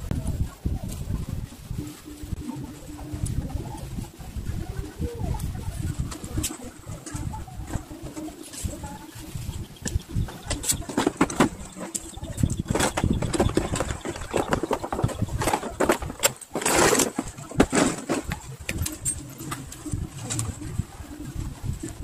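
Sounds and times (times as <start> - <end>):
rustling scrape: 0.0 - 22.0.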